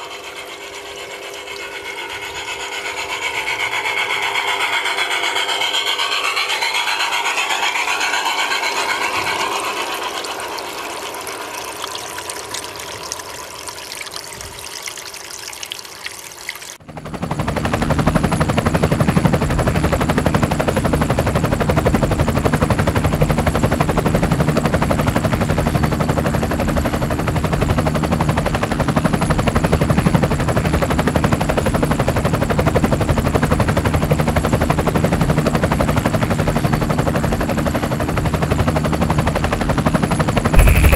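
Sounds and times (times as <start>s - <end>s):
small helicopter motor buzzing: 0.0s - 14.5s, 16.6s - 40.9s.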